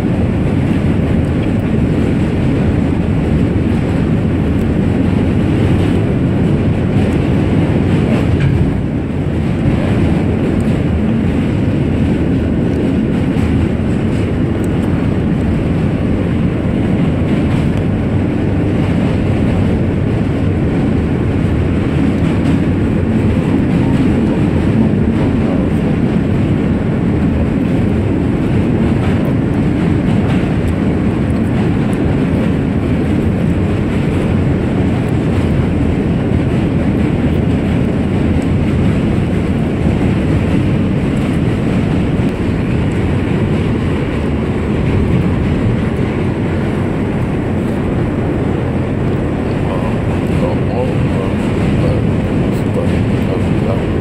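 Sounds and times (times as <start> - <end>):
subway wheels rumbling on rails: 0.0 - 54.0.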